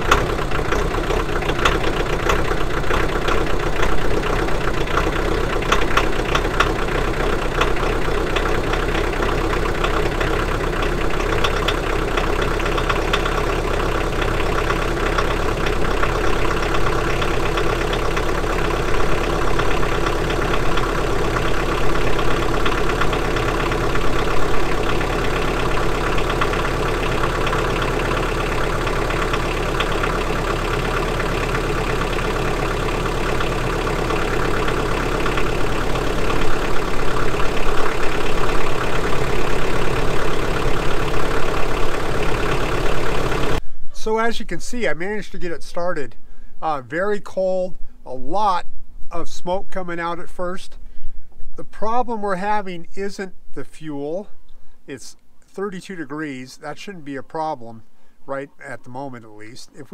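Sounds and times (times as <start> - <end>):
diesel tractor engine idling: 0.0 - 48.5.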